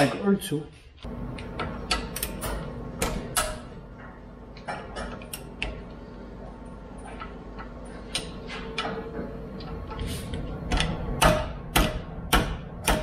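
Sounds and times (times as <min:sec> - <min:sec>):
steady low hum: 0:00.7 - 0:13.0.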